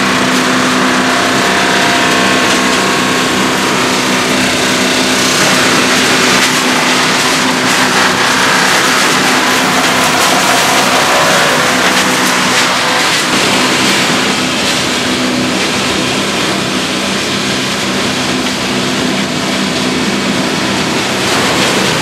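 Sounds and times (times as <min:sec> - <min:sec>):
diesel engine hum: 0:00.0 - 0:22.0
hammermill grinding wood: 0:00.0 - 0:22.0.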